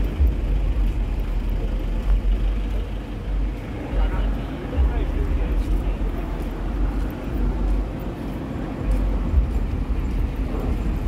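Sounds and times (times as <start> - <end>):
low rumble of vehicles and crowd: 0.0 - 11.0.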